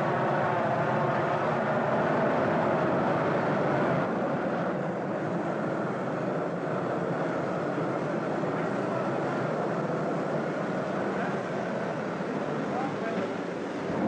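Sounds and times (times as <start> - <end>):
gas torches roaring: 0.0 - 14.0.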